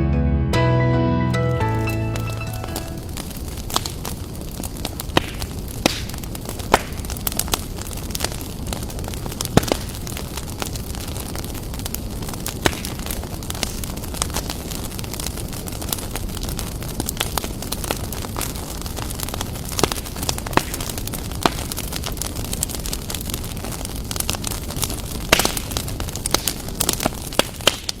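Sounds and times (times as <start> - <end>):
campfire crackling and popping: 1.7 - 28.0.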